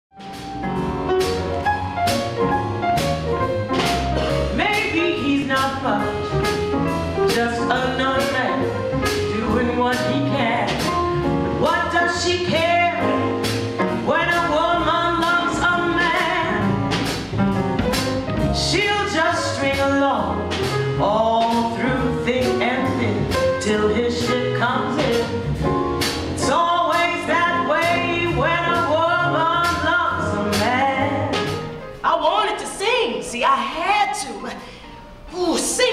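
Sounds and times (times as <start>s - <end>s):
jazz band playing: 0.1s - 35.9s
woman singing jazz: 2.6s - 35.9s.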